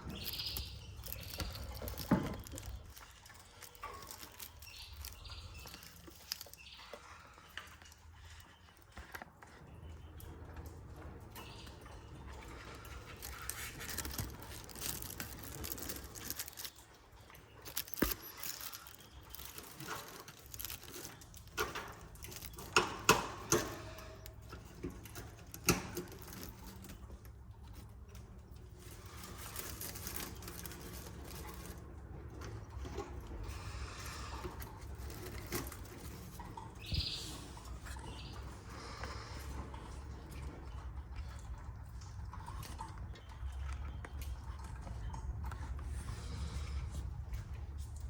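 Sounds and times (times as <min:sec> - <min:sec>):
birds rustling in a cage: 0:00.0 - 0:48.0.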